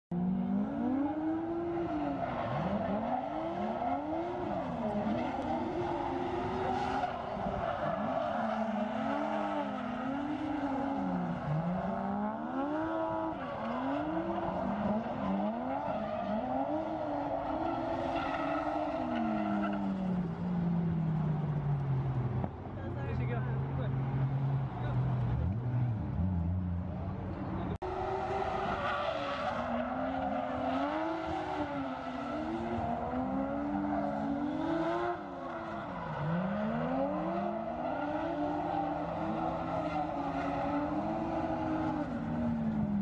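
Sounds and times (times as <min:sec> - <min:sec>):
car engines revving: 0:00.1 - 0:43.0.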